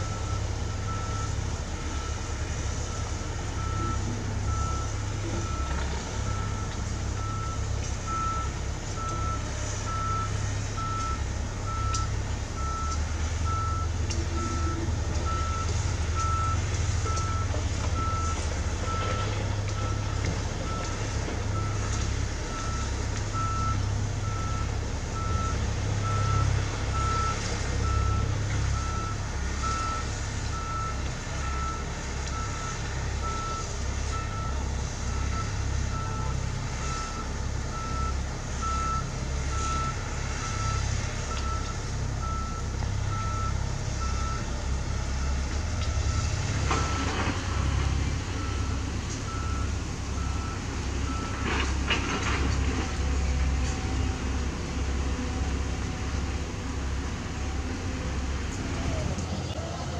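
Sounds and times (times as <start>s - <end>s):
reversing alarm beeping: 0.0s - 51.5s
diesel engine running: 0.0s - 59.9s.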